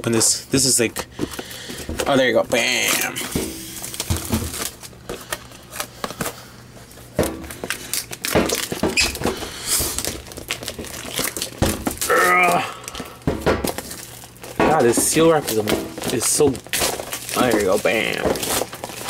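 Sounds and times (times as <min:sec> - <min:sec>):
plastic wrap crinkling and tearing: 0:01.2 - 0:19.0.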